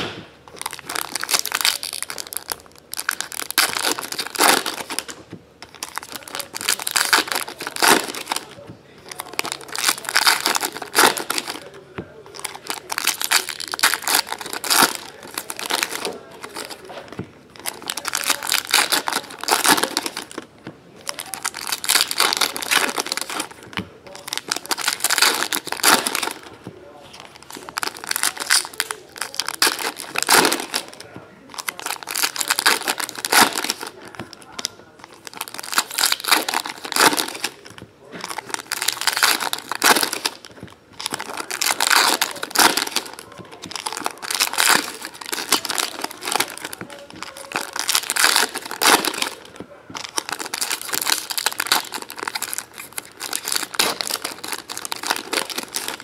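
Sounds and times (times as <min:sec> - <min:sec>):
foil wrappers crinkling and tearing: 0:00.0 - 0:56.0.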